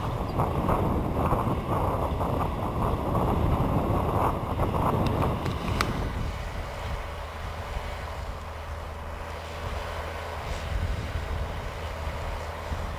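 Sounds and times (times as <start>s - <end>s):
tractor diesel engine under load: 0.0s - 12.9s
wind buffeting microphone: 0.0s - 12.9s.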